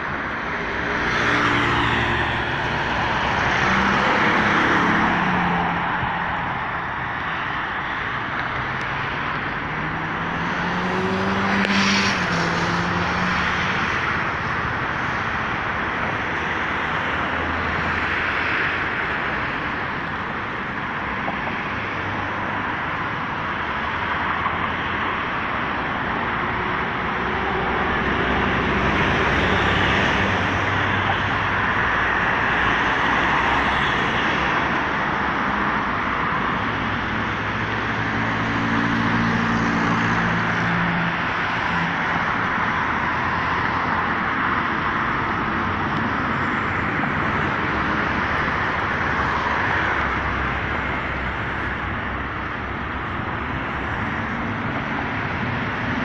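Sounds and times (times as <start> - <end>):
cars passing on road: 0.0 - 56.0.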